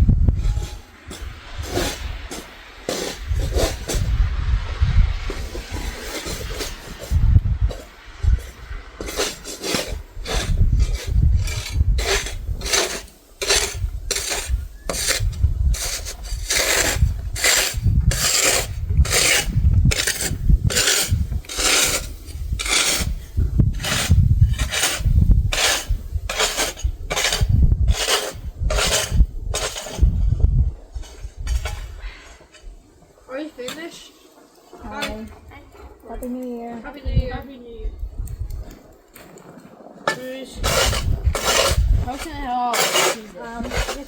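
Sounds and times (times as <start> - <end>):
snow shovel scraping sidewalk: 0.0 - 37.1, 38.6 - 44.0.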